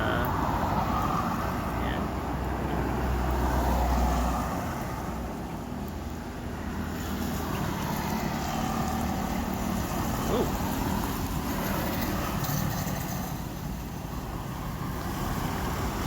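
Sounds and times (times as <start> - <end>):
outdoor traffic noise: 0.0 - 16.0.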